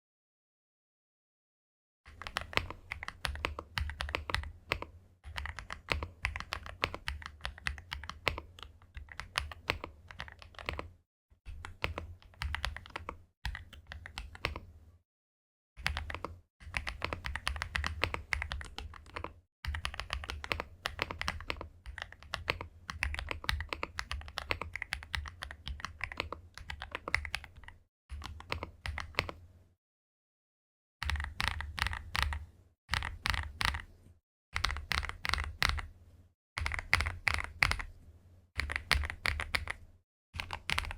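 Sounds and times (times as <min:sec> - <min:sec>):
mechanical keyboard typing: 0:02.1 - 0:14.7, 0:15.8 - 0:29.4, 0:31.0 - 0:33.9, 0:34.6 - 0:35.9, 0:36.6 - 0:37.9, 0:38.6 - 0:39.8, 0:40.4 - 0:40.9.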